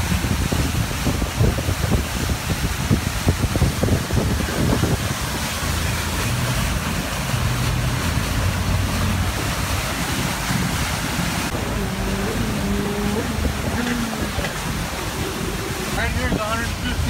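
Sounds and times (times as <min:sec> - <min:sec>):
motorboat engine hum: 0:00.0 - 0:17.0
water rushing: 0:00.0 - 0:17.0
wind buffeting microphone: 0:00.0 - 0:17.0.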